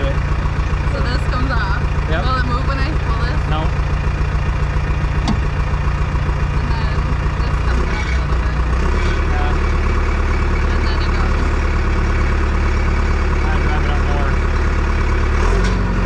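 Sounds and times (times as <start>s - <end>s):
bulldozer diesel engine: 0.0s - 16.0s.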